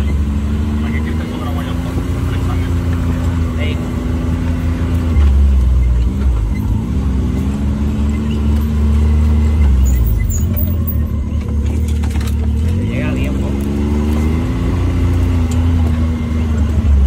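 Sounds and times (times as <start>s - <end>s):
turbocharged engine running: 0.0s - 17.0s.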